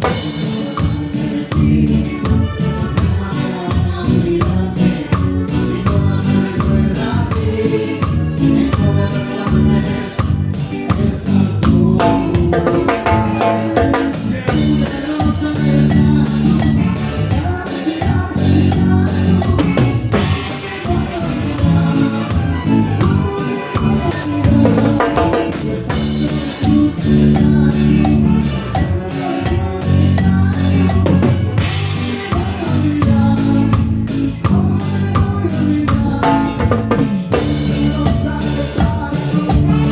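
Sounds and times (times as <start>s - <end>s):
band music: 0.0s - 39.9s
bass drum and snare beat: 0.0s - 39.9s.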